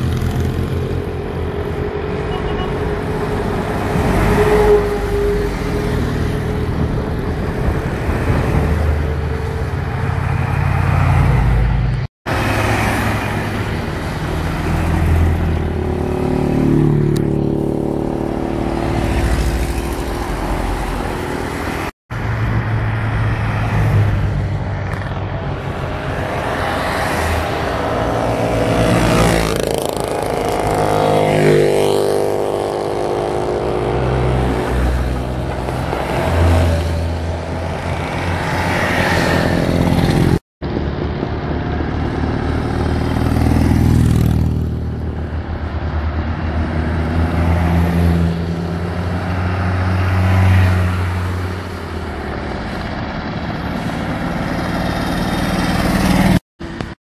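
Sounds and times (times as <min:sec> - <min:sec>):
cars and motorcycles driving past: 0:00.0 - 0:57.0.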